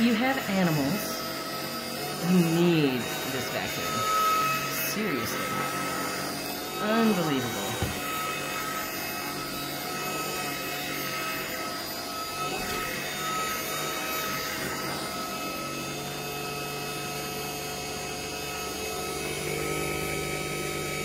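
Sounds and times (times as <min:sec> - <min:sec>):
vacuum cleaner running on rug: 0:00.0 - 0:21.0.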